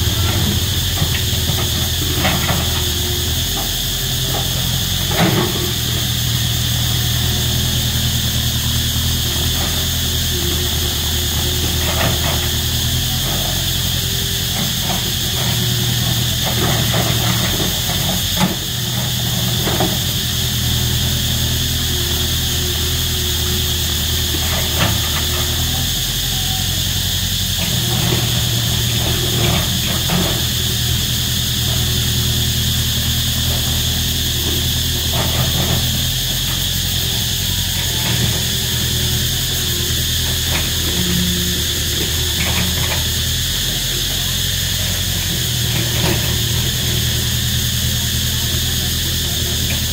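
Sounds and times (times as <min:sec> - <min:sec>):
cicadas calling: 0:00.0 - 0:49.9
excavator diesel engine running: 0:00.0 - 0:49.9.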